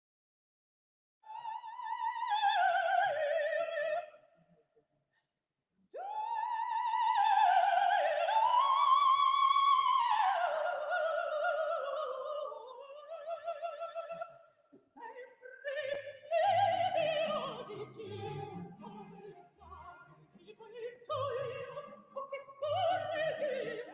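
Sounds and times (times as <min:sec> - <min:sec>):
operatic soprano singing: 0:01.2 - 0:04.2, 0:06.0 - 0:23.9.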